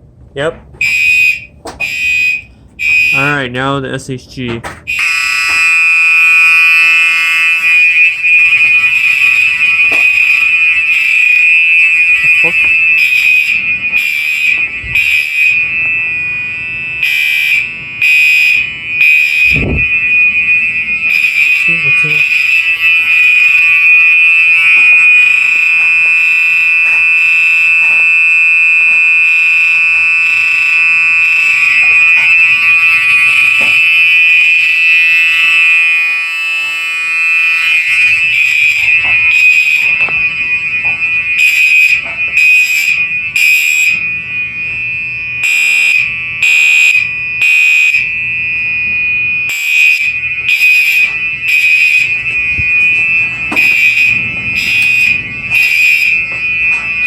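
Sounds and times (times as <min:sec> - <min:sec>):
fire alarm horn blasts: 0:00.8 - 0:57.0
steady fire alarm horn tone: 0:00.8 - 0:57.0.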